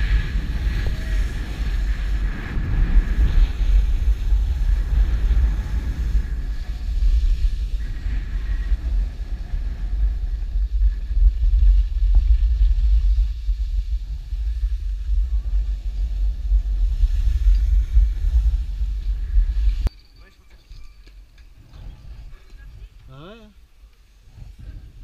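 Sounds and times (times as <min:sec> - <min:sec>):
wind buffeting microphone: 0:00.0 - 0:19.9, 0:24.2 - 0:25.0.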